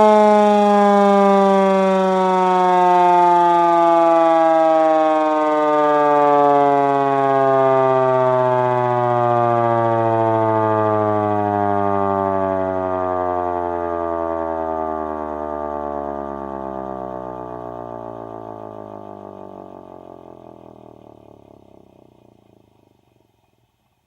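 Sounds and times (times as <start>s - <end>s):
air raid siren wailing: 0.0s - 22.9s.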